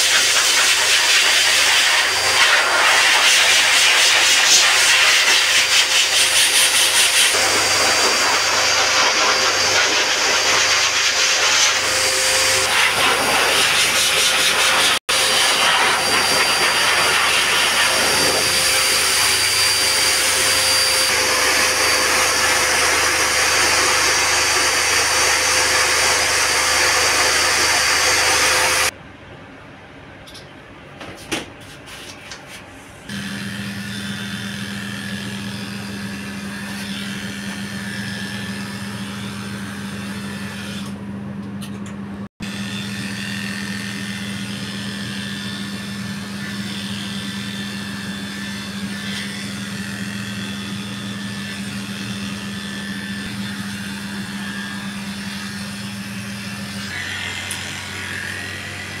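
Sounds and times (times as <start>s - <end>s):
electric clippers buzzing: 0.4s - 28.9s, 33.1s - 41.0s, 42.4s - 59.0s.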